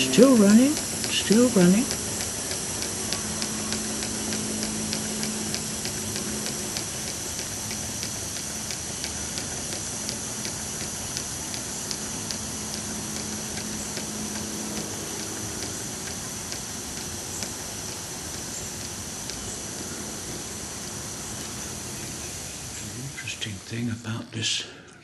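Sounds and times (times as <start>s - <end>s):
model engine clicking: 0.0s - 23.6s
air hissing: 0.0s - 24.8s.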